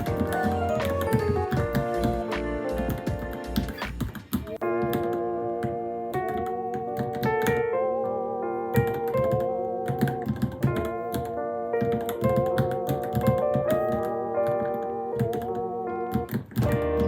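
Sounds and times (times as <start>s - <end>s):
electric piano melody: 0.0s - 17.0s
keyboard typing clicks: 0.0s - 17.0s.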